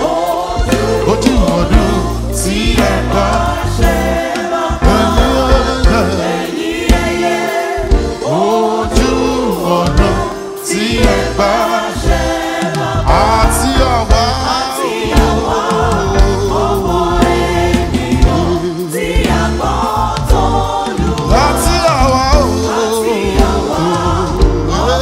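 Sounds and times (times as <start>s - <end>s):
gospel choir singing: 0.0s - 25.0s.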